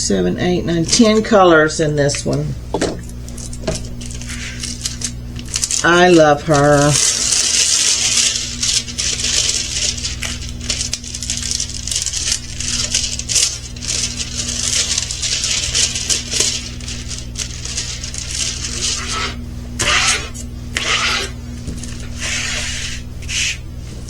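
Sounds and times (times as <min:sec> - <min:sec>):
steady low hum: 0:00.0 - 0:24.0
plastic packaging crinkling: 0:00.7 - 0:23.3.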